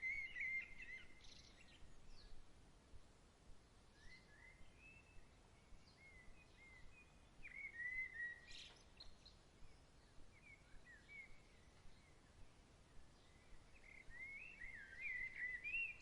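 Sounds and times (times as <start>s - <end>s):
birds chirping faintly: 0.0s - 2.5s, 3.5s - 16.0s
background hiss: 0.0s - 16.0s.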